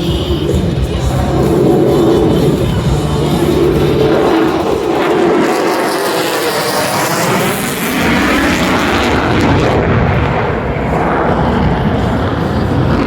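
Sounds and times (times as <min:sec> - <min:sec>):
fighter jet rumble: 0:00.0 - 0:13.0
jet engine high hiss: 0:00.0 - 0:13.0.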